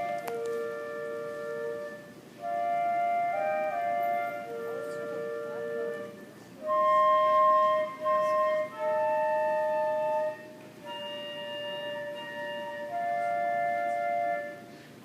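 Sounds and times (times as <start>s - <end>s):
wind instruments duet: 0.0s - 15.0s.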